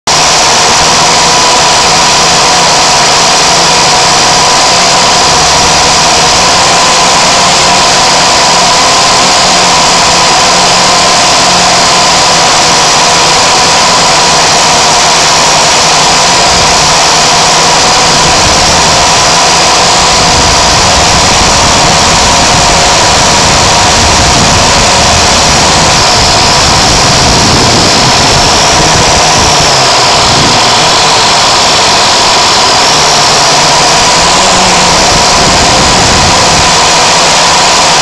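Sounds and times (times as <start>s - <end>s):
drone motor and propeller whine: 0.0s - 38.0s
rushing air: 0.1s - 38.0s.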